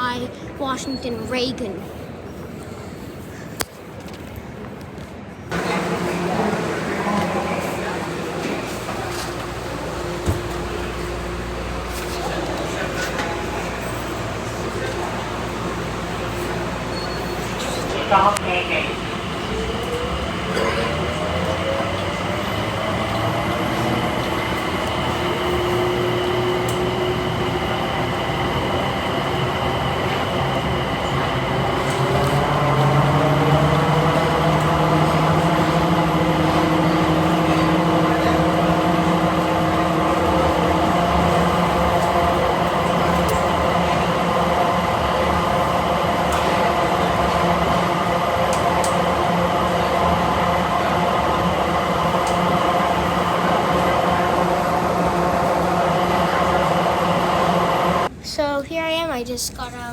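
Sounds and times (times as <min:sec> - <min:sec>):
train motors whining: 0:05.5 - 0:58.2.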